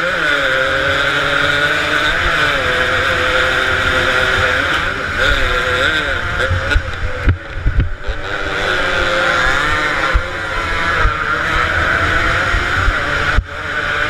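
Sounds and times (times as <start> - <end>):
motorcycle engines racing past: 0.0 - 14.0.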